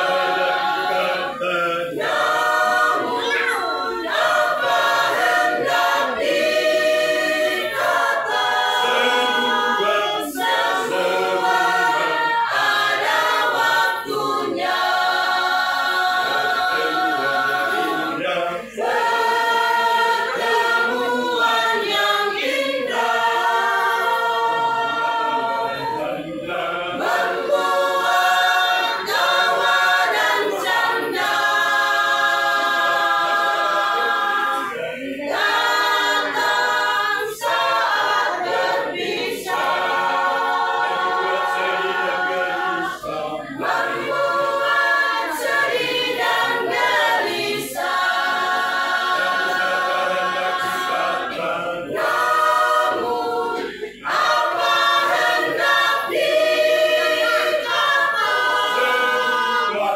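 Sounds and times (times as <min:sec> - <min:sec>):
choir singing in harmony: 0:00.0 - 0:59.9.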